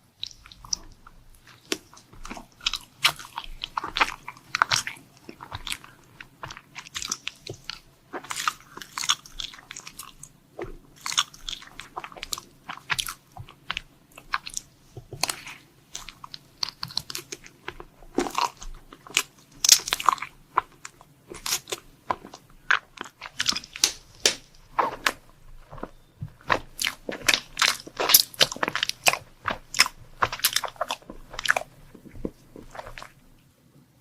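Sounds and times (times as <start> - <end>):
crunching and chewing food: 0.0 - 33.5.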